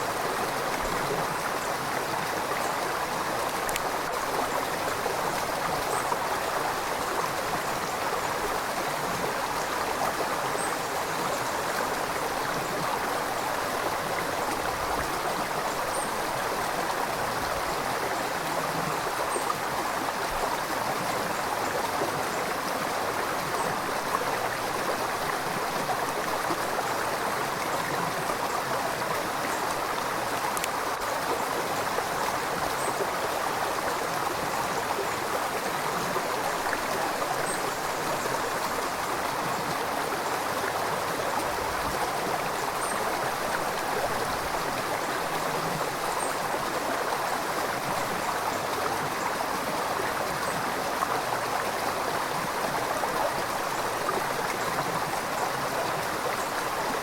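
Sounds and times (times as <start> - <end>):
river water babbling over rocks: 0.0 - 57.0.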